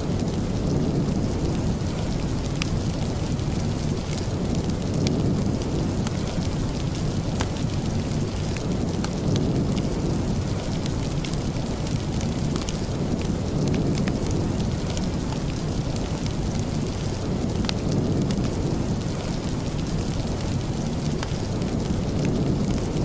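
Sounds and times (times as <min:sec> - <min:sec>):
rain with deep rumble: 0:00.0 - 0:23.0.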